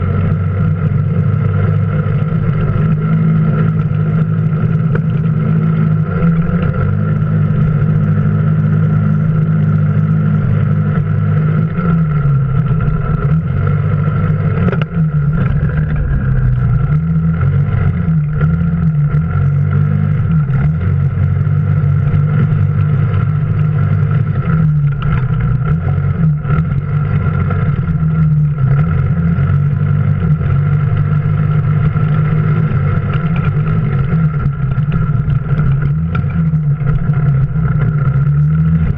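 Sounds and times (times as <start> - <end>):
off-road vehicle engine: 0.0 - 38.9
steady high whine: 0.0 - 38.9.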